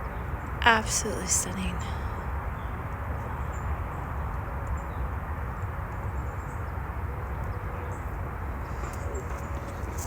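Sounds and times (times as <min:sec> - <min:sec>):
low rumbling outdoor background: 0:00.0 - 0:10.0.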